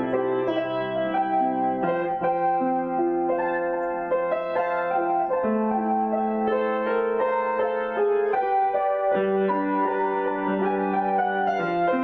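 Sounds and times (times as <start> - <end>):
gentle solo piano: 0.0 - 12.0.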